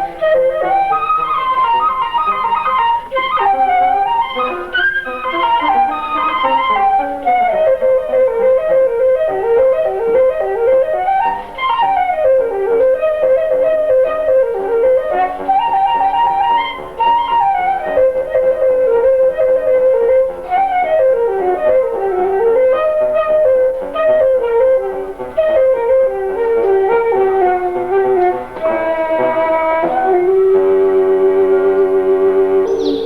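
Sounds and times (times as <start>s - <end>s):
quiet accompanying notes: 0.0s - 33.0s
woodwind melody: 0.0s - 33.0s.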